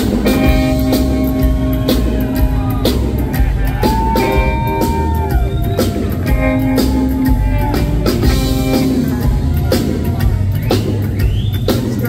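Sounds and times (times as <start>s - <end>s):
rockabilly band playing: 0.0s - 12.0s.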